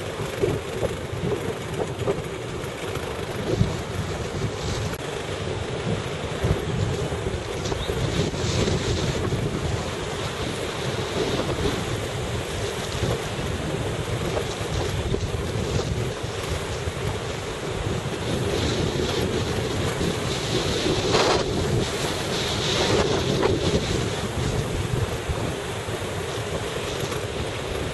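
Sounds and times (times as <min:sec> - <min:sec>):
boat engine running: 0:00.0 - 0:27.9
waves washing: 0:00.0 - 0:27.9
wind buffeting microphone: 0:00.0 - 0:27.9.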